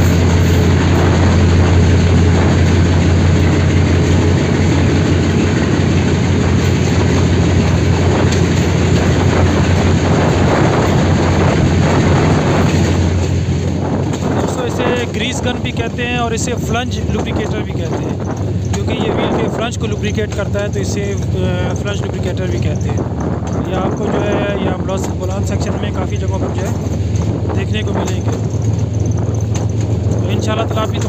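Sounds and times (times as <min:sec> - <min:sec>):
diesel locomotive engine drone: 0:00.0 - 0:31.0
wheels rumbling on rails: 0:00.0 - 0:31.0.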